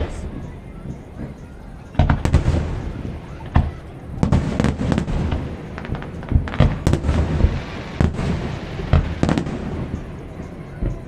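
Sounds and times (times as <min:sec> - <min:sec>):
fireworks bursting with bangs: 0:00.0 - 0:11.0
fireworks crackling: 0:00.0 - 0:11.0.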